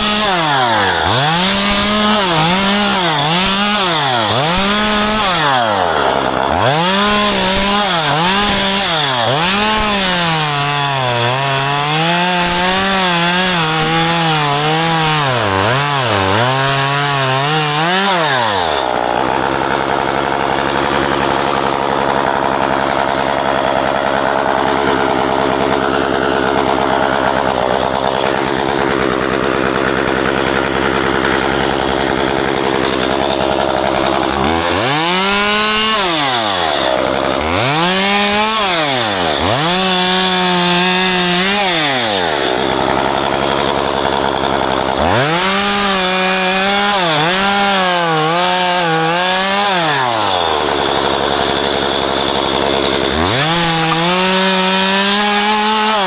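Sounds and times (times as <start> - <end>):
chain cutting branches: 0.0 - 56.0
chainsaw revving: 0.0 - 56.0.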